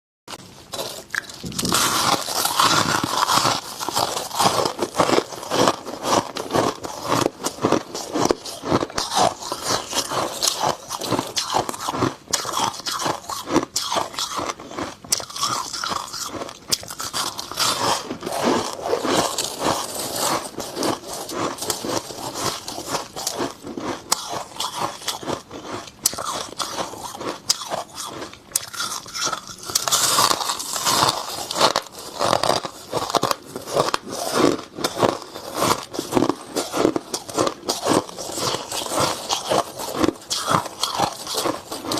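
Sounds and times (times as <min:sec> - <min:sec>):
crunching and chewing frost: 0:00.3 - 0:41.9.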